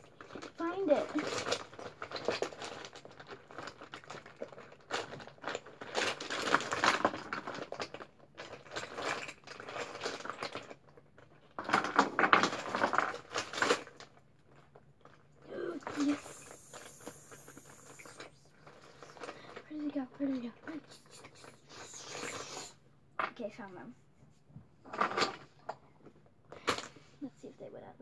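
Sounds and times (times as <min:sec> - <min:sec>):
rummaging through small items: 0:00.0 - 0:22.3, 0:24.8 - 0:27.2.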